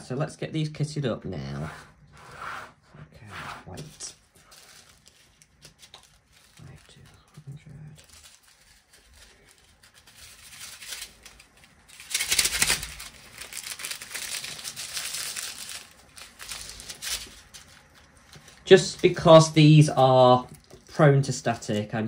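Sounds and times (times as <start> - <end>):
plastic bag crinkling: 4.1 - 22.0.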